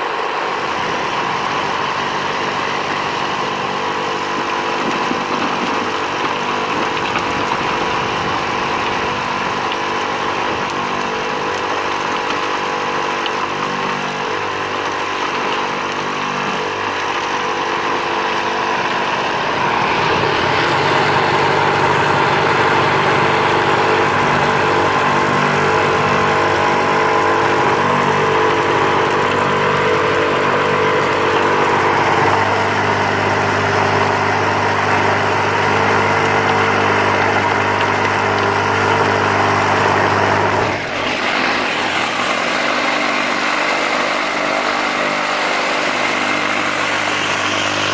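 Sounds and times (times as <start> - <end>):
compost pouring through screen: 0.0 - 47.9
vibrating motor humming: 0.0 - 47.9.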